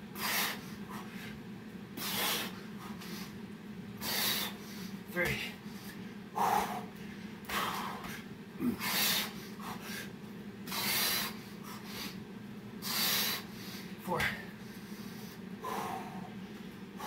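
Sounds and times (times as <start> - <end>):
man breathing hard: 0.1 - 1.4, 2.0 - 3.4, 4.0 - 12.2, 12.8 - 17.0.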